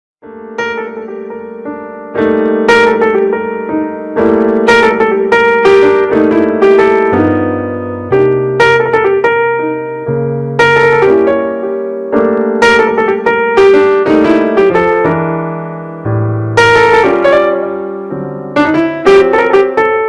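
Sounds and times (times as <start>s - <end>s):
piano music: 0.2s - 20.0s.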